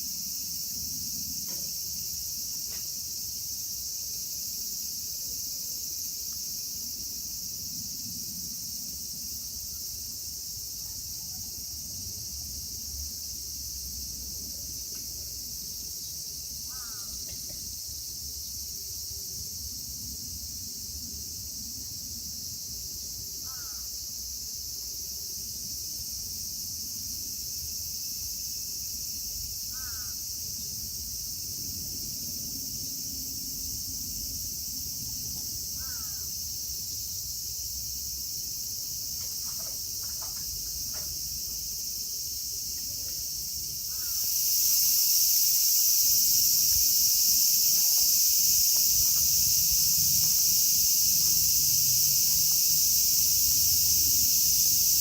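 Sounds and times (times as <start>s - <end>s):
cicadas chorus drone: 0.0s - 55.0s.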